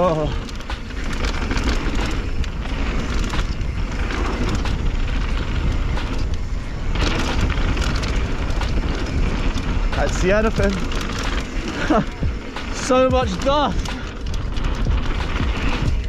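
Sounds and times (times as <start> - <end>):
bike clattering and rattling: 0.0 - 16.0
tyres on loose dirt: 0.0 - 16.0
wind rumble: 0.0 - 16.0.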